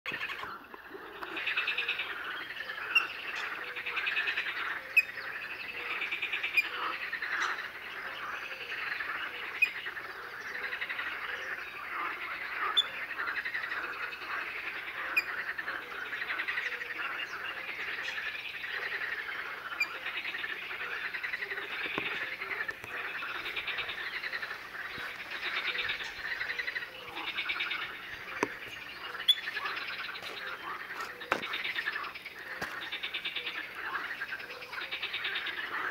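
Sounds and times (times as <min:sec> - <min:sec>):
birds calling: 0:00.1 - 0:35.9
frogs calling: 0:00.1 - 0:35.9.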